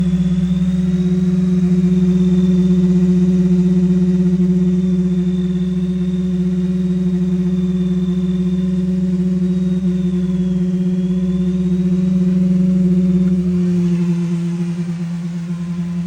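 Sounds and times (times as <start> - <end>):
truck engine idling with whine: 0.0 - 16.0.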